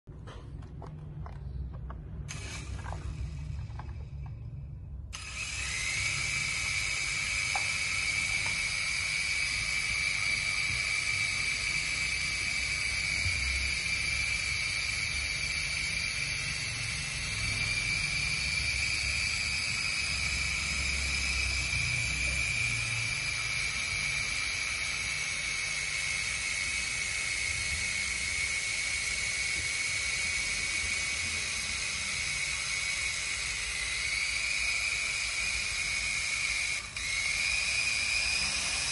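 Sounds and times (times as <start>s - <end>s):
toy helicopter rotor whine: 2.3s - 4.4s, 5.1s - 38.9s.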